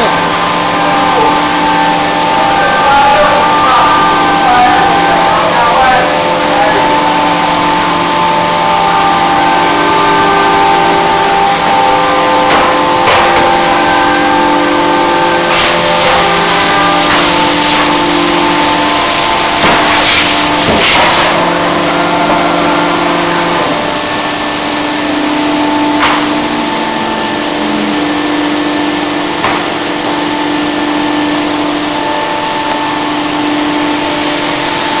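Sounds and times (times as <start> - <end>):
motor tones shifting pitch: 0.0 - 35.0.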